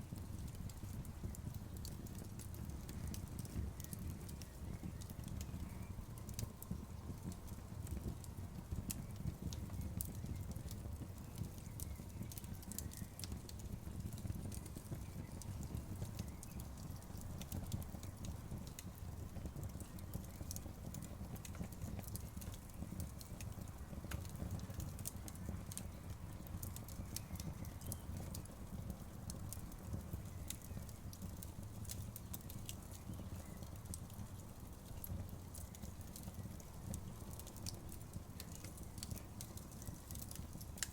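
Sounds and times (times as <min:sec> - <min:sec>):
bonfire rumble: 0:00.0 - 0:40.9
wood crackling and popping: 0:00.0 - 0:40.9.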